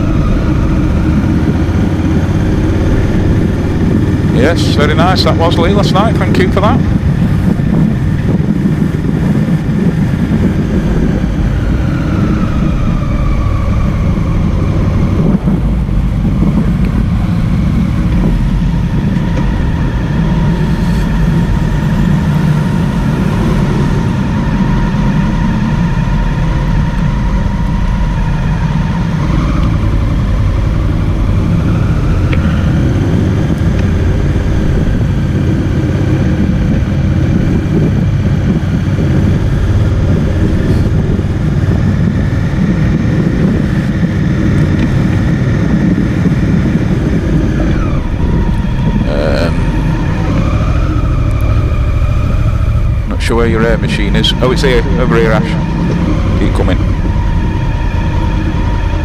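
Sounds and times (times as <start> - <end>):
motorcycle engine: 0.0 - 59.0
road rumble: 0.0 - 59.0.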